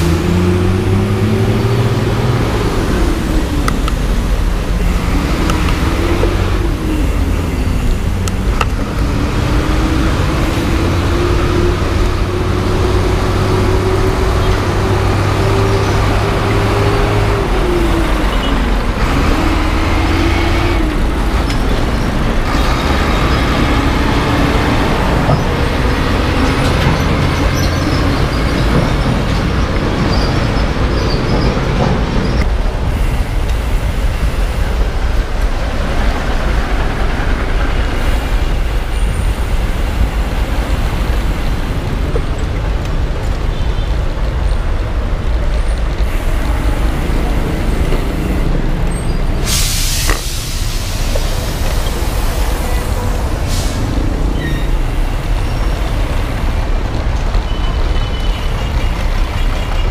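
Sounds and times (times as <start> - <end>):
road and traffic noise: 0.0 - 59.9
vehicle engine accelerating: 0.0 - 59.9.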